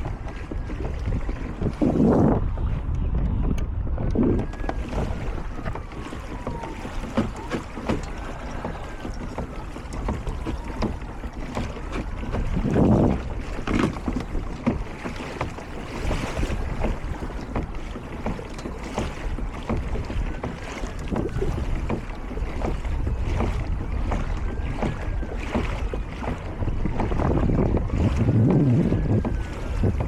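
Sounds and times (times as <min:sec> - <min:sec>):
water lapping against kayak hull: 0:00.0 - 0:30.0
wind buffeting microphone: 0:00.0 - 0:30.0.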